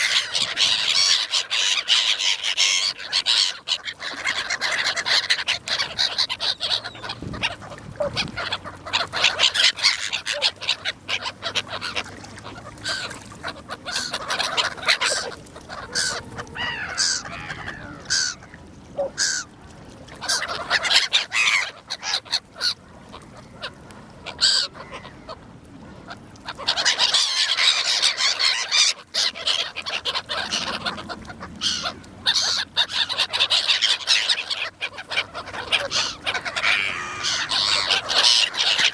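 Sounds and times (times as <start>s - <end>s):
gulls calling: 0.0s - 38.9s.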